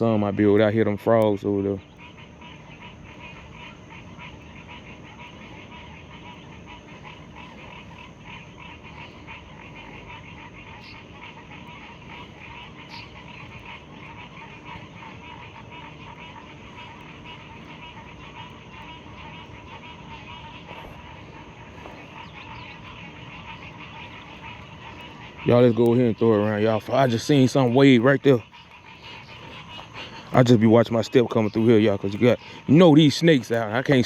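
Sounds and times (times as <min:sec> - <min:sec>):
frogs calling: 0:00.0 - 0:34.0.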